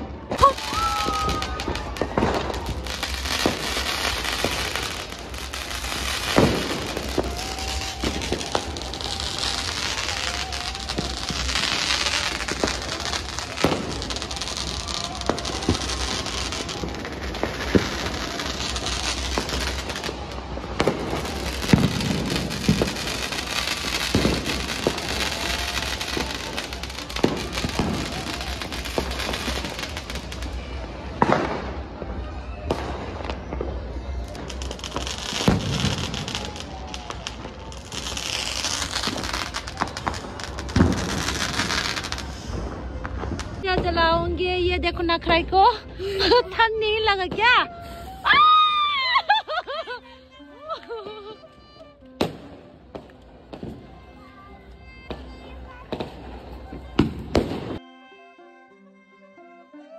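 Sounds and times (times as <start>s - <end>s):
firework bangs: 0.0s - 49.8s, 52.2s - 54.3s, 55.1s - 57.8s
fireworks crackling: 0.0s - 57.8s.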